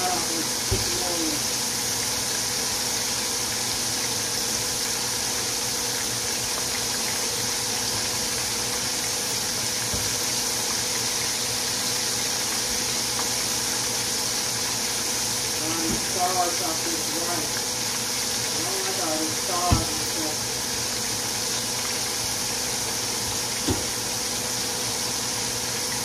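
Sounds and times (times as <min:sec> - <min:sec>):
pork chops sizzling in oil: 0:00.0 - 0:26.0.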